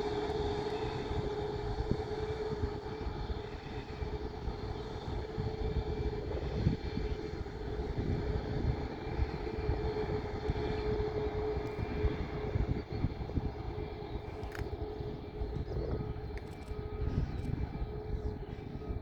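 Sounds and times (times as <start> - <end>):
jet engines humming: 0.0 - 19.0.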